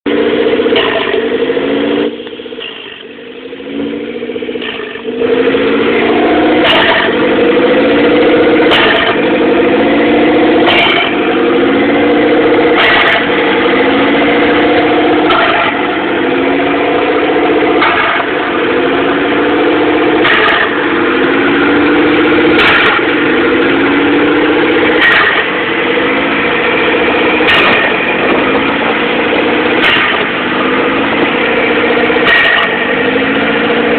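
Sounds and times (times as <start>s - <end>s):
car engine idling rough and surging: 0.0s - 33.9s.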